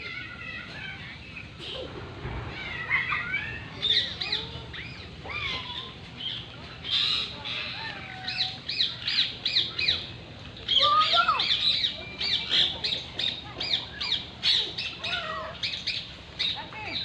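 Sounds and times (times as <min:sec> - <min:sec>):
birds chattering: 0:00.0 - 0:17.0.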